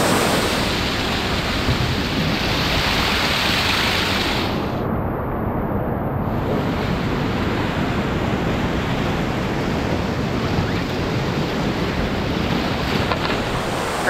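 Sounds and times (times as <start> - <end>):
whitewater rapids rushing: 0.0 - 4.6, 6.6 - 14.0
wind on microphone: 0.0 - 14.0.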